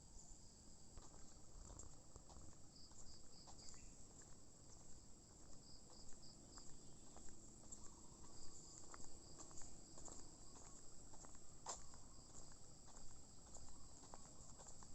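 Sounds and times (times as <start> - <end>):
insects chirping: 0.0 - 14.9.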